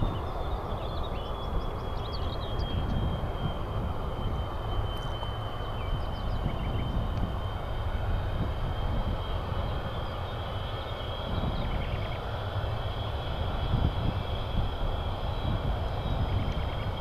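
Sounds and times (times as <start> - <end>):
distant jet engine rumble: 0.0 - 17.0
high engine whine: 0.0 - 17.0.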